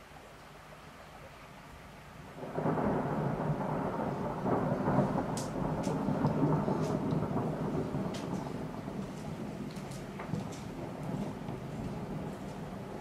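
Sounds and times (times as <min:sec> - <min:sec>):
rain falling: 0:00.0 - 0:13.0
thunder rumbling: 0:02.4 - 0:13.0.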